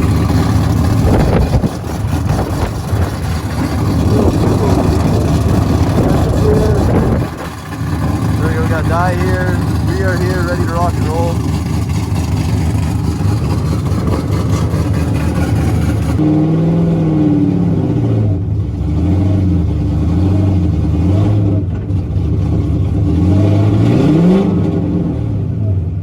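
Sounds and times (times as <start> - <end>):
car engine revving hard: 0.0 - 25.9.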